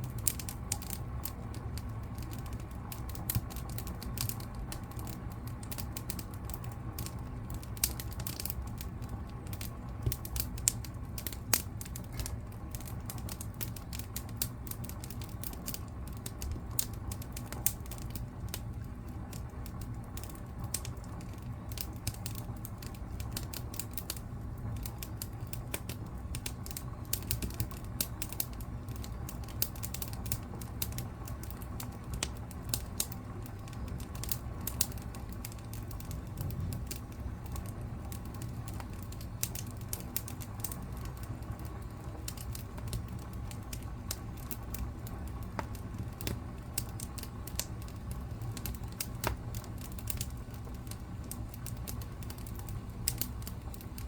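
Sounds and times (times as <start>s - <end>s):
fire low rumble: 0.0s - 54.0s
wood fire crackling and popping: 0.0s - 54.0s.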